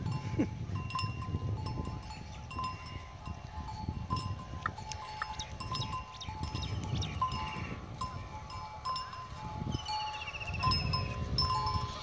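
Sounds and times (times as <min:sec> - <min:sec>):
bell-like rings: 0:00.0 - 0:12.0.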